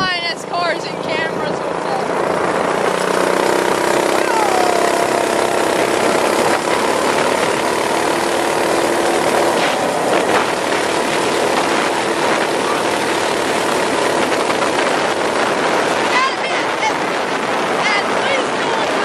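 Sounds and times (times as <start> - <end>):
small bike engine running: 0.0 - 19.0
wind noise on microphone: 1.4 - 19.0.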